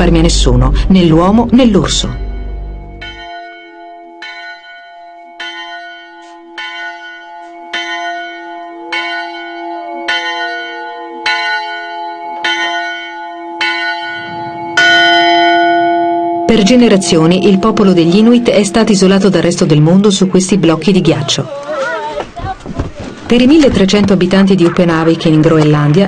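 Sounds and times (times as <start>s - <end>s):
bell ringing: 0.0s - 21.4s.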